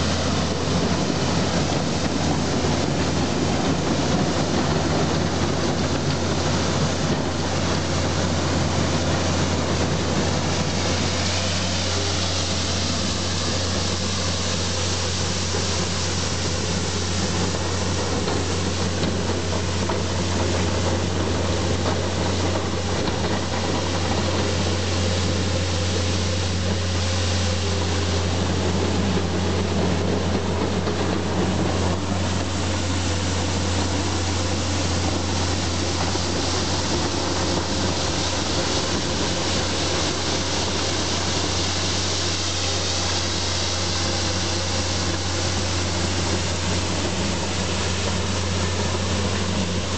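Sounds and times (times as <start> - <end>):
loader engine running: 0.0 - 49.9.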